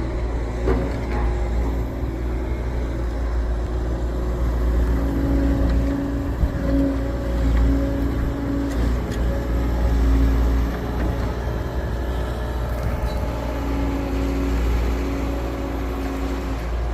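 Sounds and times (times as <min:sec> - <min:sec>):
heavy machine engine rumbling: 0:00.0 - 0:16.9.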